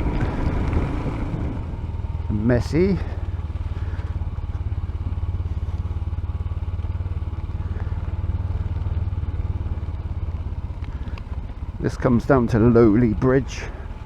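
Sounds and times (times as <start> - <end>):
motorcycle engine thrum: 0.0 - 14.0.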